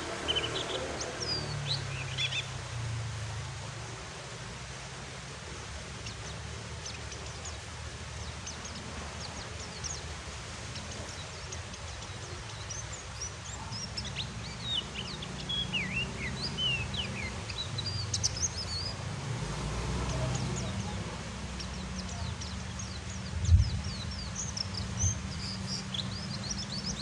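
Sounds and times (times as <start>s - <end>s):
bird chirping and twittering: 0.0s - 3.5s, 5.5s - 27.0s
rain hissing: 0.0s - 26.8s.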